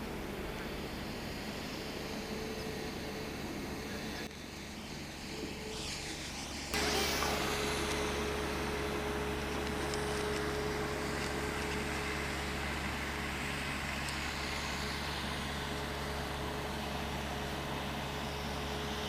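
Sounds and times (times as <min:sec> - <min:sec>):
faint electric motor whine: 0:00.0 - 0:19.0.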